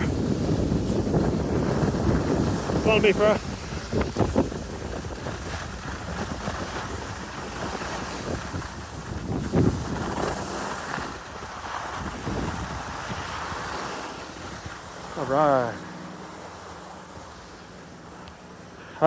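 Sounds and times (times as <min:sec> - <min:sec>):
wind buffeting microphone: 0:00.0 - 0:15.6
sliding over snow: 0:00.0 - 0:17.7.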